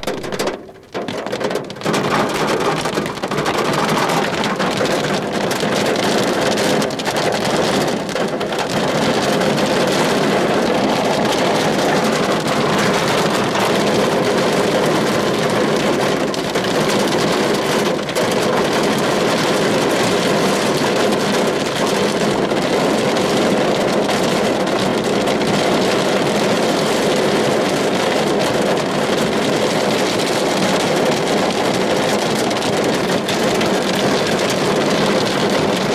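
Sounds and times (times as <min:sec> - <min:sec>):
hail and rain drumming on car roof: 0:00.0 - 0:35.9.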